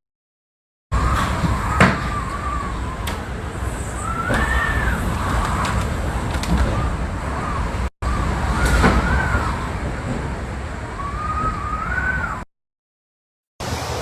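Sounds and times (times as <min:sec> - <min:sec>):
wind buffeting microphone: 0:00.9 - 0:12.4
high wavering wind howl: 0:00.9 - 0:12.5.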